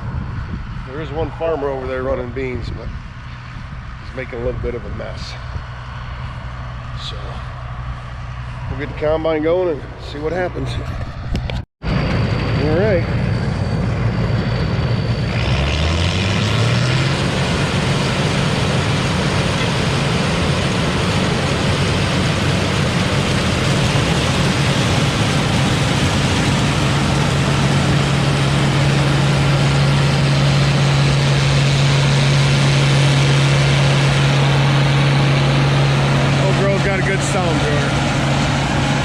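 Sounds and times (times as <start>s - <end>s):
combine harvester engine revving: 0.0s - 39.0s
rush of machinery noise: 0.0s - 39.0s.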